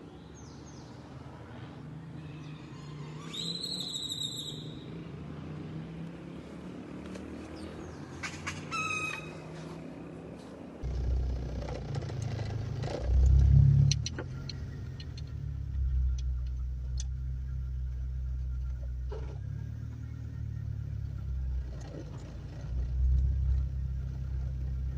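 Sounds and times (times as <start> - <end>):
vehicle engine rumbling: 0.0 - 24.9.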